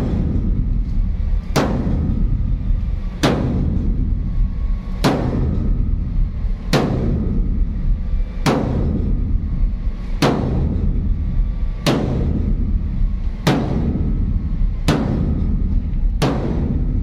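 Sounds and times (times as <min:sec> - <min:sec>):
low rumble: 0:00.0 - 0:17.0
sledgehammer striking steel wall: 0:00.0 - 0:17.0.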